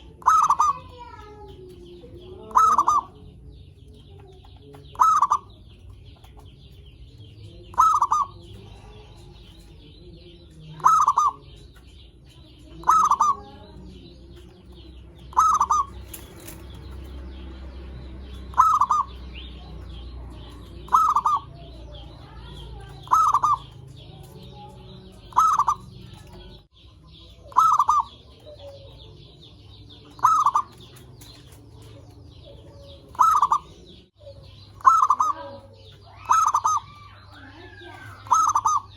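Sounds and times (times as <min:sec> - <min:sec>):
dove cooing: 0:00.0 - 0:03.4, 0:04.8 - 0:05.8, 0:07.7 - 0:09.8, 0:10.7 - 0:11.6, 0:12.5 - 0:16.8, 0:18.5 - 0:26.6, 0:27.4 - 0:38.9.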